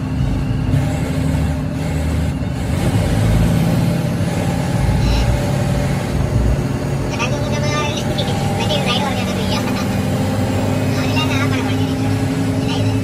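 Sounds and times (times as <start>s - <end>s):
diesel engine running: 0.0s - 13.0s
road noise: 0.0s - 13.0s.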